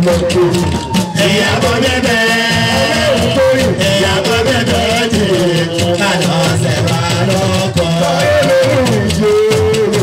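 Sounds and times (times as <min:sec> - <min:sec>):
hand drums: 0:00.0 - 0:10.0
man singing into a microphone: 0:00.0 - 0:10.0
shaker rattle: 0:00.0 - 0:10.0.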